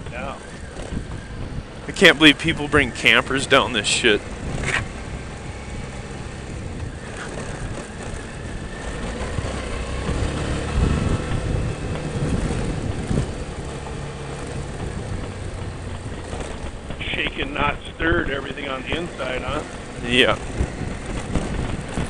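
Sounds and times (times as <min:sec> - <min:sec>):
motorcycle running at low speed: 0:00.0 - 0:22.0
wind buffeting microphone: 0:00.0 - 0:22.0.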